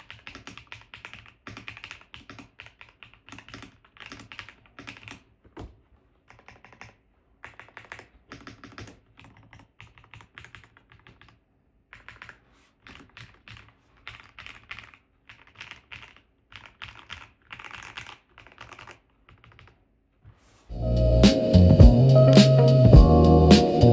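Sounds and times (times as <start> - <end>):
mechanical keyboard typing: 0.0 - 5.6, 6.2 - 19.8.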